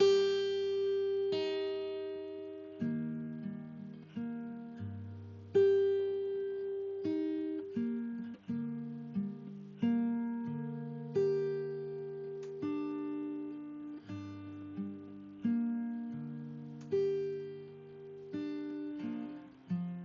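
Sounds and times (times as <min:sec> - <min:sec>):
plucked acoustic guitar: 0:00.0 - 0:20.0.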